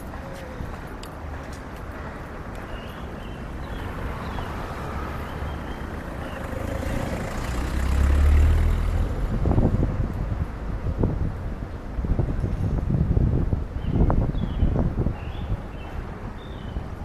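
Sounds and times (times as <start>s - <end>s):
passing vehicle engine rumble: 0.0s - 13.7s
street traffic noise: 0.0s - 17.0s.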